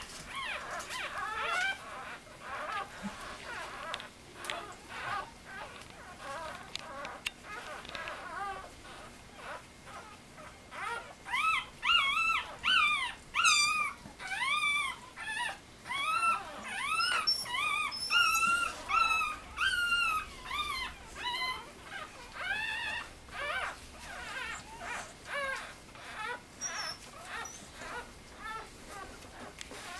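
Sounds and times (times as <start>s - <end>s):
puppies whimpering: 0.0s - 29.9s.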